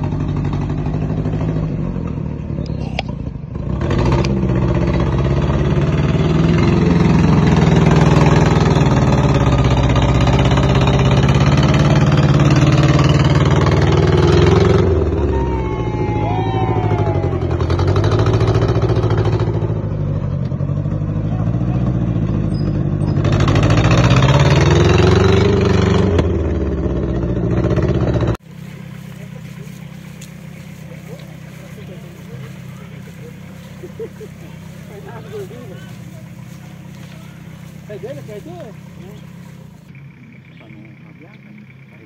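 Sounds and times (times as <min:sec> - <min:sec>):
engine working hard: 0:00.0 - 0:42.0.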